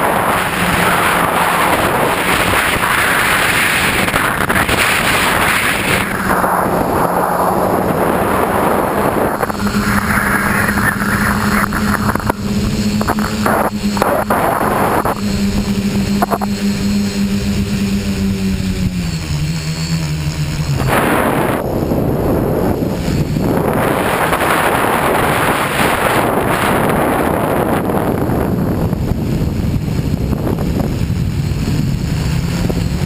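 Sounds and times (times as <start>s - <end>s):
drone motors buzzing: 0.0s - 33.0s
wind rushing over microphone: 0.0s - 33.0s.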